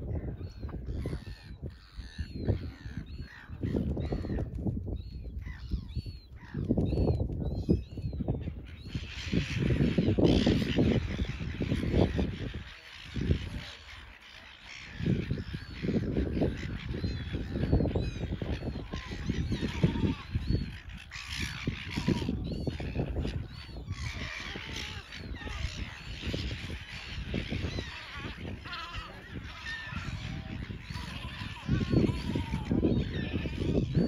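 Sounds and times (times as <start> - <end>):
gulls squawking: 0.0 - 4.5, 5.4 - 34.0.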